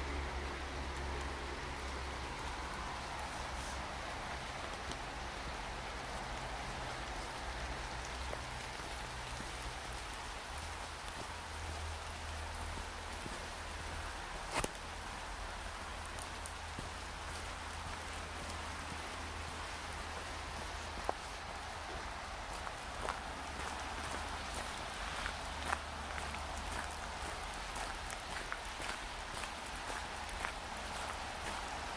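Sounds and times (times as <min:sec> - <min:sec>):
hissing wash of water: 0:00.0 - 0:31.9.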